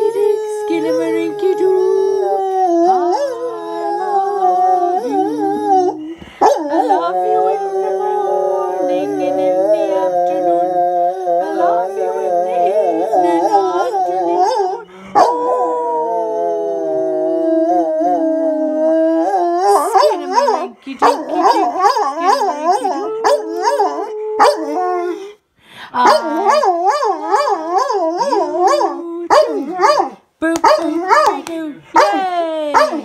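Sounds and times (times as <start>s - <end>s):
dog howling: 0.0s - 25.4s, 26.0s - 31.4s.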